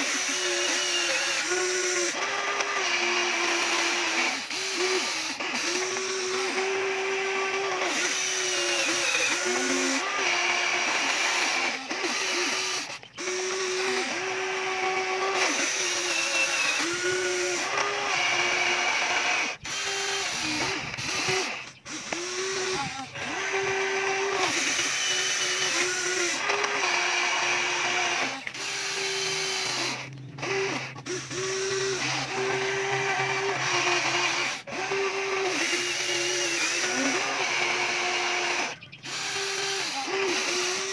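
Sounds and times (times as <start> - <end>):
toy excavator motors whining: 0.0 - 40.9.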